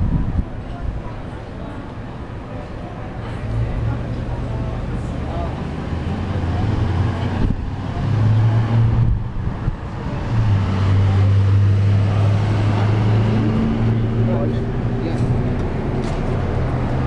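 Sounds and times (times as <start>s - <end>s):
city street traffic: 0.0s - 17.0s
vehicle engine droning: 1.3s - 17.0s.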